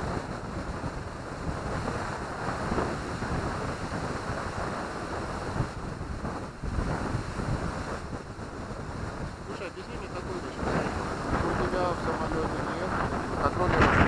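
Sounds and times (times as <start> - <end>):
wind blowing over microphone: 0.0 - 14.0.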